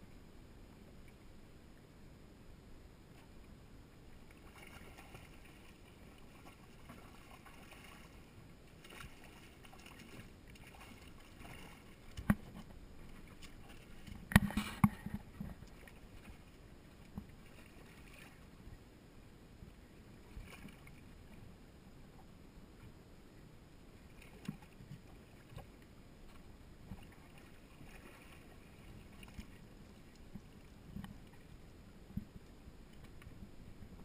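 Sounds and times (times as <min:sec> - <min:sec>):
water lapping against boat hull: 0:04.1 - 0:18.8, 0:19.7 - 0:23.0, 0:24.0 - 0:34.0.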